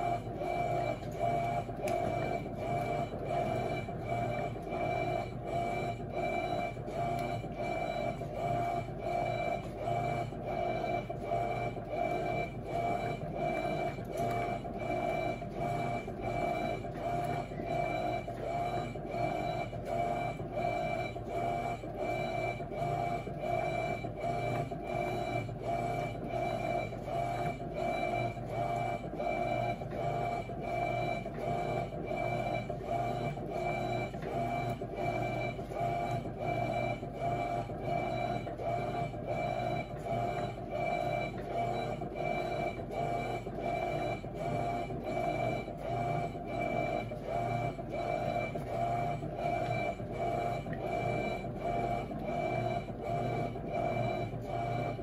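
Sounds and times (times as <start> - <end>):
washing machine motor whine: 0.0 - 55.0.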